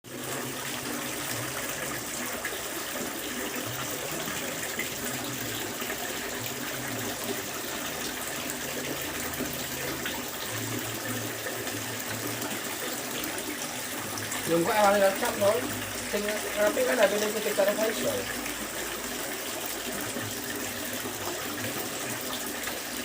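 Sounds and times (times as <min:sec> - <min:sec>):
fountain water splashing: 0:00.1 - 0:23.0.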